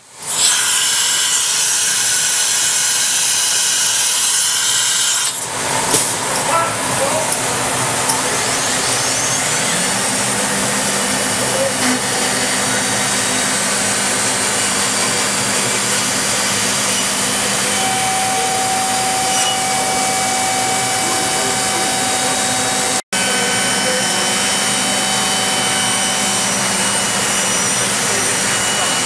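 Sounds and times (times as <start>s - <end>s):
router spindle milling wood: 0.2s - 29.0s
steady whine: 5.5s - 29.0s.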